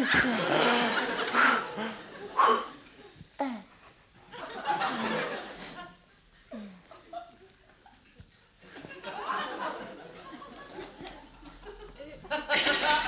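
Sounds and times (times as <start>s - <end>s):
audience laughing: 0.0s - 3.1s, 4.3s - 13.0s.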